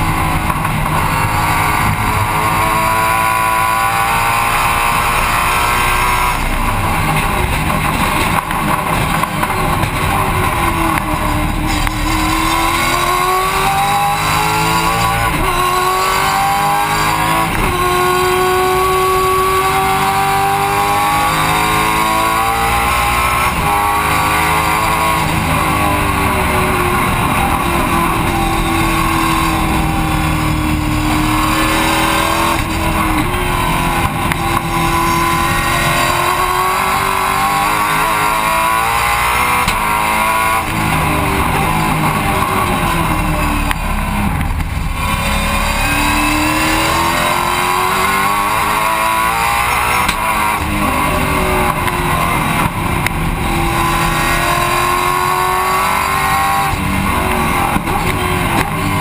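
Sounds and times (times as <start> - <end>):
race car engine through gears: 0.0 - 59.0.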